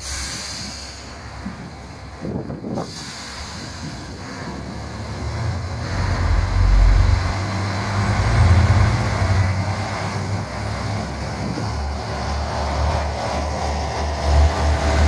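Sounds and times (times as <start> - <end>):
railcar diesel engine revving: 0.0 - 15.0.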